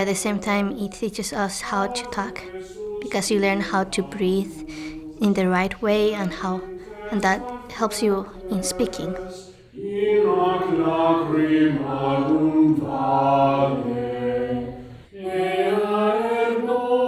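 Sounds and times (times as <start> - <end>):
young choir singing chant: 0.0 - 17.0.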